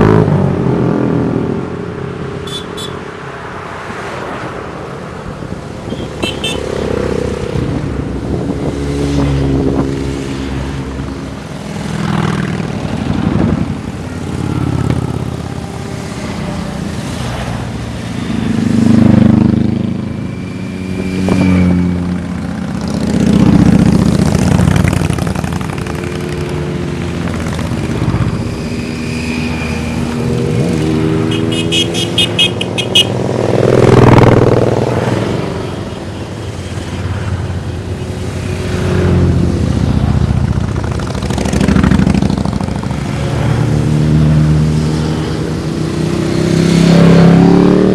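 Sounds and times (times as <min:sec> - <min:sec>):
motorcycles riding past: 0:00.0 - 0:47.9.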